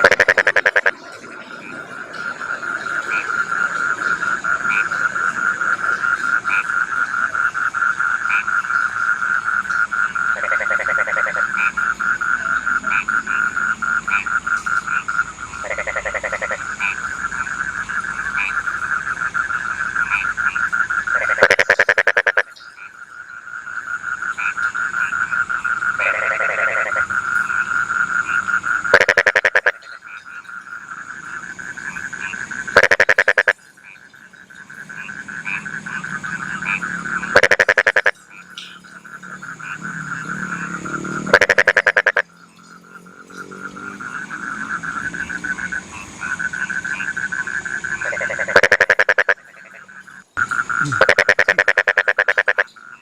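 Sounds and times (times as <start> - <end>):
frogs croaking: 0.0 - 53.0
frogs trilling: 0.0 - 53.0.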